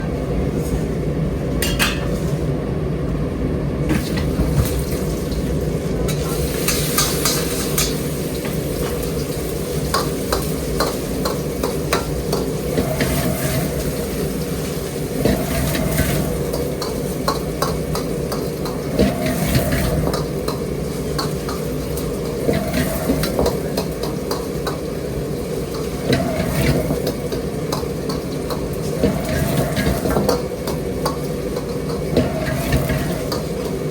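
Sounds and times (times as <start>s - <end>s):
food sizzling: 3.9s - 33.9s.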